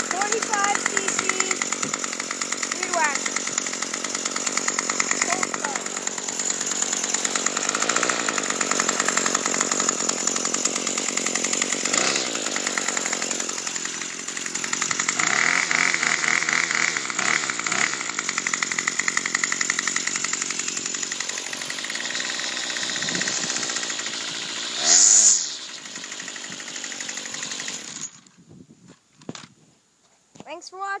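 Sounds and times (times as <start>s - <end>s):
string trimmer engine revving: 0.0s - 28.3s.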